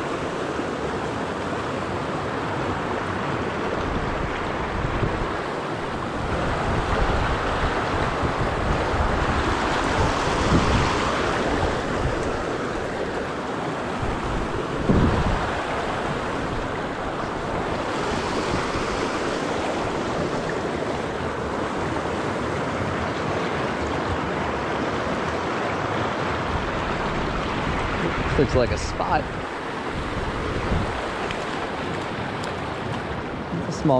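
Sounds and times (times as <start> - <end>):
river rapids over stones: 0.0 - 33.9.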